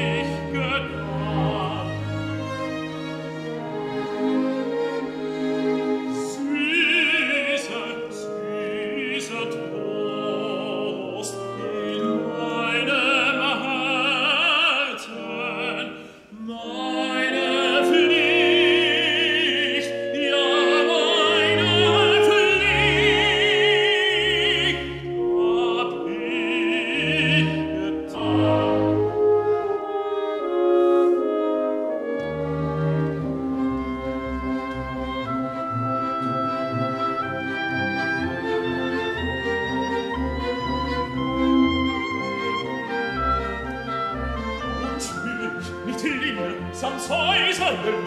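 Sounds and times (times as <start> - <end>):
operatic tenor singing: 0.0 - 2.7, 3.6 - 48.0
orchestra playing: 0.0 - 48.0.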